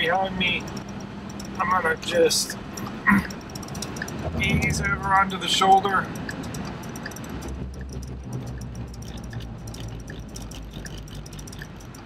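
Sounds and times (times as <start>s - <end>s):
road and engine rumble in cab: 0.0s - 12.0s
turn signal clicking: 0.4s - 1.8s, 2.4s - 12.0s.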